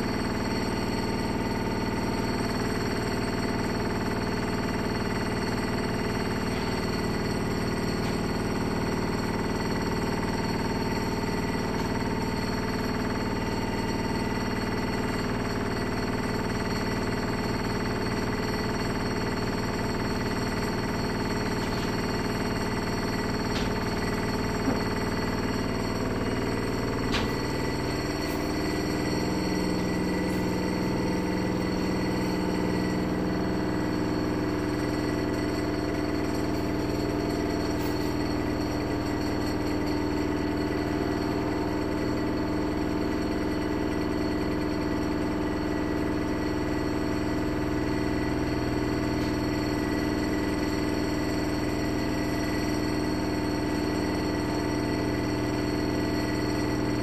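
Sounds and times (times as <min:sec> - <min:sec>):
motor whine: 0:00.0 - 0:57.0
washing machine drum spinning: 0:00.0 - 0:57.0.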